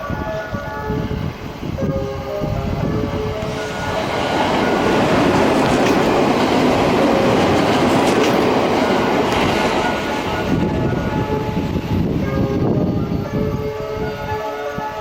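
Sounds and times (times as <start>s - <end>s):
electric train passing at speed: 0.0s - 15.0s.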